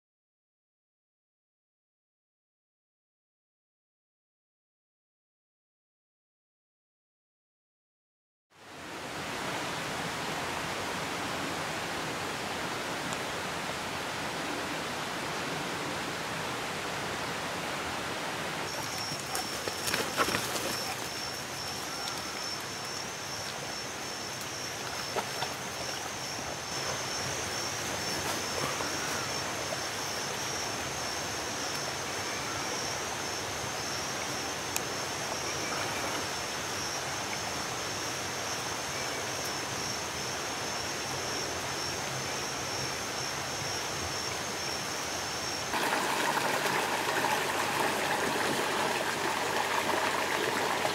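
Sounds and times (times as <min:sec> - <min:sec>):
stream water rushing: 0:08.6 - 0:50.9.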